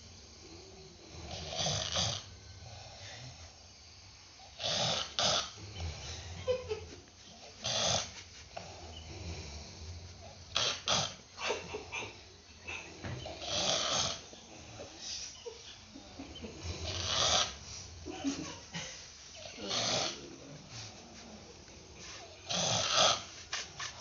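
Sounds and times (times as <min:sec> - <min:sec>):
person snoring: 0:00.4 - 0:03.6, 0:04.4 - 0:06.7, 0:07.3 - 0:24.0.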